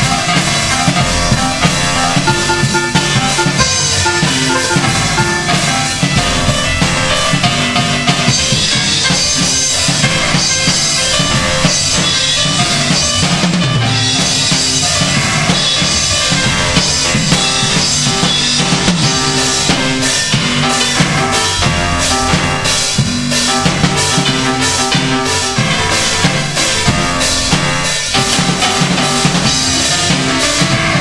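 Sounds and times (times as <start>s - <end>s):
drum kit beat: 0.0s - 31.0s
keyboard through guitar amp: 0.0s - 31.0s
rock instrumental over loudspeakers: 0.0s - 31.0s.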